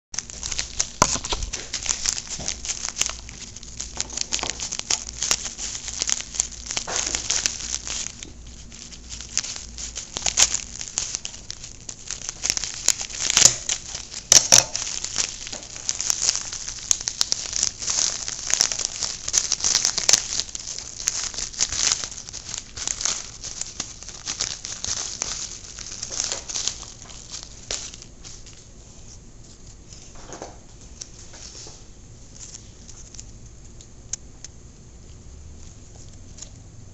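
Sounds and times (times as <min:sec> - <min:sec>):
packaging crinkling and rustling: 0:00.2 - 0:34.2.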